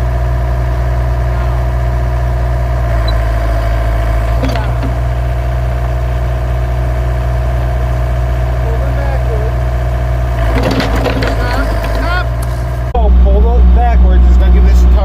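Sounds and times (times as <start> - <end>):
heavy equipment engine running: 0.0 - 15.0.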